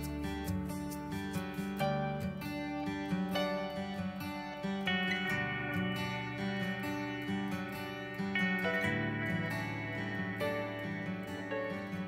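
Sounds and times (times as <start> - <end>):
gentle acoustic guitar: 0.0 - 12.0.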